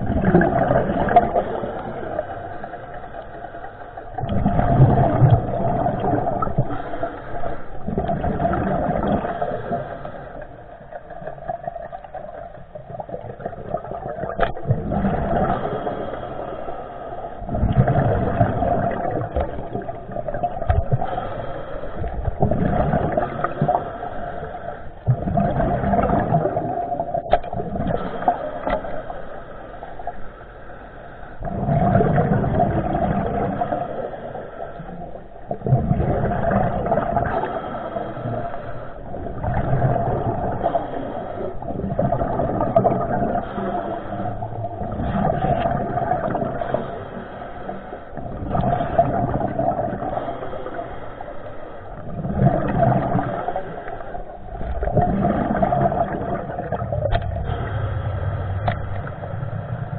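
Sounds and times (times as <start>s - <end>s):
steady hum: 0.0s - 59.9s
water rushing underwater: 0.0s - 59.9s.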